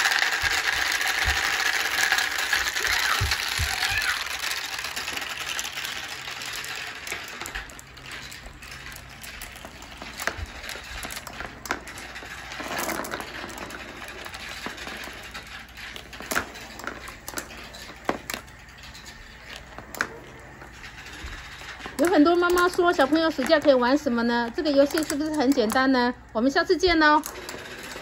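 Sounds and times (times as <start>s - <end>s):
marbles clicking: 0.0s - 28.0s
marbles rolling on track: 0.0s - 28.0s.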